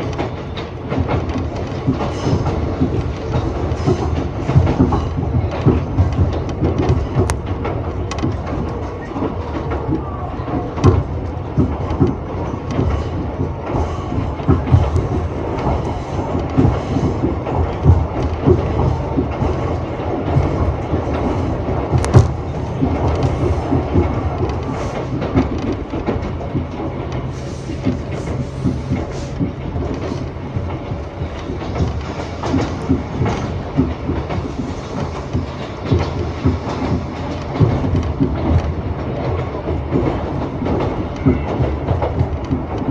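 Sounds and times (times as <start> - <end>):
rail joint clacks: 0.0 - 42.9
train wheels rumbling on rail: 0.0 - 42.9.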